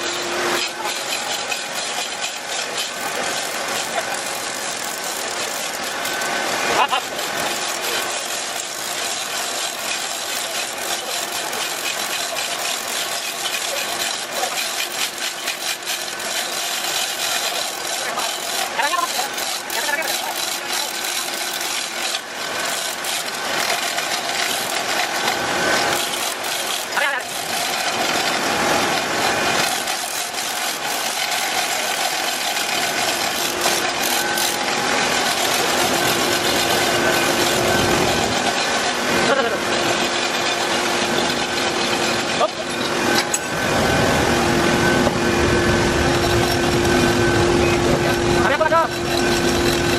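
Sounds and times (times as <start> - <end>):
chain hoist rattling: 0.0 - 43.6, 47.6 - 49.9
noisy background: 0.0 - 49.9.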